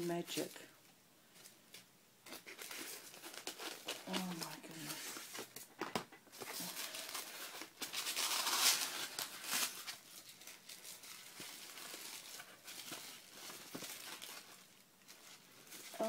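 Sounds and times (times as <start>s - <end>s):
packaging crinkling and rustling: 1.4s - 16.0s.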